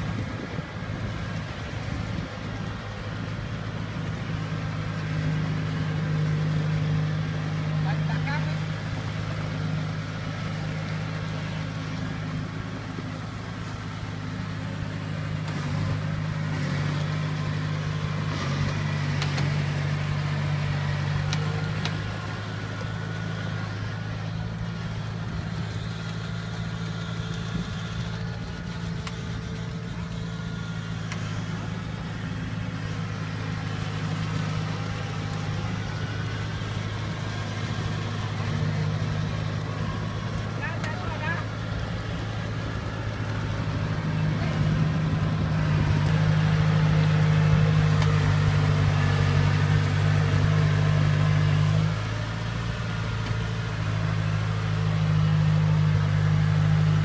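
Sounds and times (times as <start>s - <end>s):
harvester diesel engine running: 0.0s - 57.0s.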